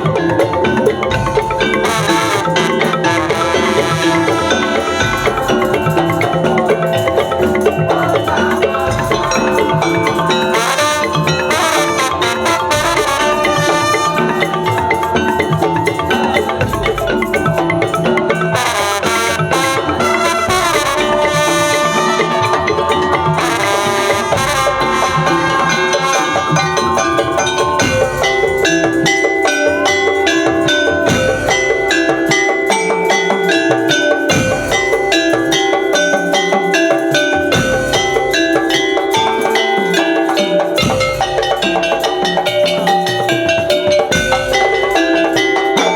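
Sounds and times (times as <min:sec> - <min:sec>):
drums: 0:00.0 - 0:45.9
tuned mallet percussion melody: 0:00.0 - 0:45.9.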